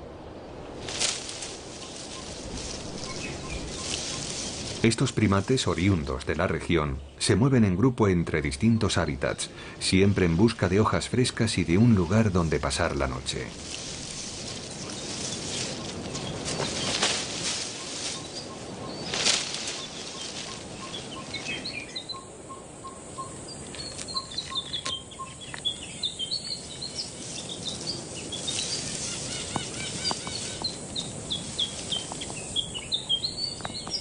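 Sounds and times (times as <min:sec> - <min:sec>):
small birds chirping: 0:01.3 - 0:07.7, 0:08.4 - 0:34.0.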